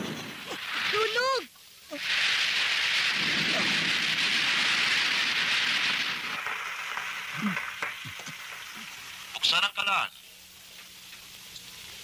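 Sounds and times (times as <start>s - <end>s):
flame rushing hiss: 0.0s - 12.0s.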